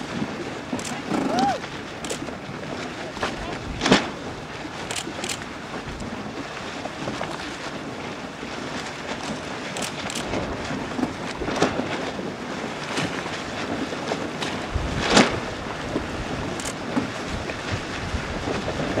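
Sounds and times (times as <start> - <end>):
boards slapping water: 0.0 - 19.0
water splashing: 0.0 - 19.0
wind buffeting microphone: 0.0 - 19.0.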